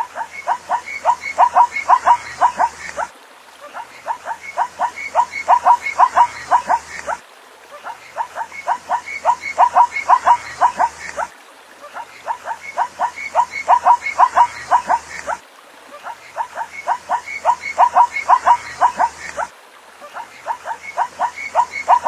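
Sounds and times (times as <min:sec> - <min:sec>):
zebra barking: 0:00.0 - 0:03.1, 0:03.7 - 0:07.2, 0:08.2 - 0:11.3, 0:12.0 - 0:15.4, 0:16.3 - 0:19.5, 0:20.1 - 0:22.0.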